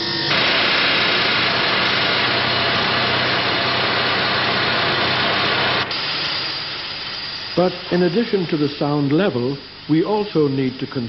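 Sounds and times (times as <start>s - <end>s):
industrial machine hissing and humming: 0.0s - 11.0s.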